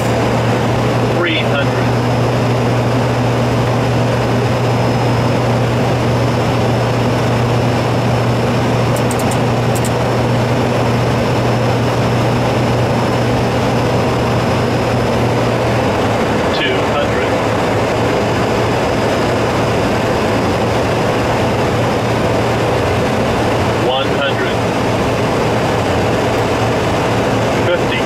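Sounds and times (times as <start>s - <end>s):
aircraft engine drone: 0.0s - 28.0s.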